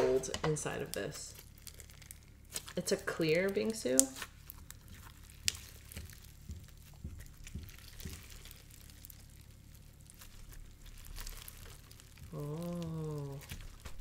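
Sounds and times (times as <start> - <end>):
slime crackling and clicking: 0.8 - 14.0.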